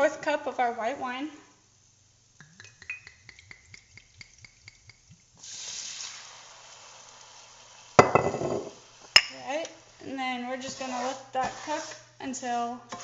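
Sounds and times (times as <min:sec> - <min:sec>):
wine sizzling in hot pan: 0:01.7 - 0:13.0.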